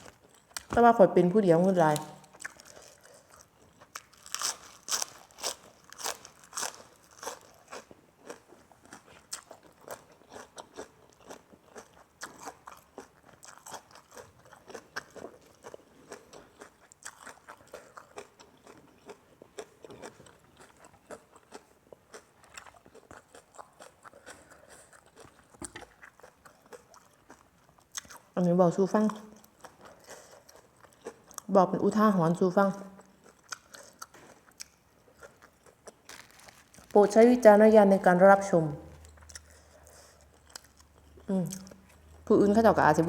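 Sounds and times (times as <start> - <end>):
person chewing crunchy food: 0.0 - 0.8, 1.8 - 28.4, 29.1 - 31.5, 32.9 - 37.2, 38.9 - 42.2.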